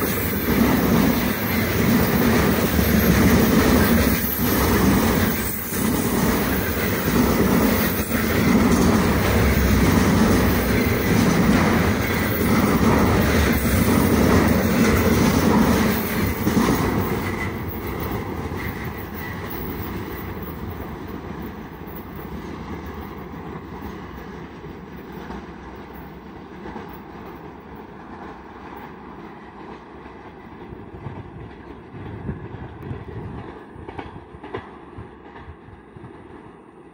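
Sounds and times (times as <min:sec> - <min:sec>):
freight train wheels rumbling: 0:00.0 - 0:36.9.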